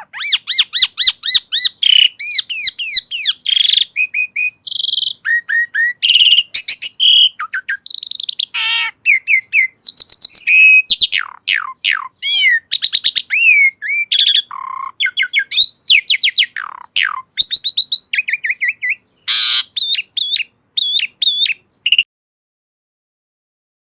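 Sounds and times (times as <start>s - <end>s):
starling singing: 0.0s - 22.1s.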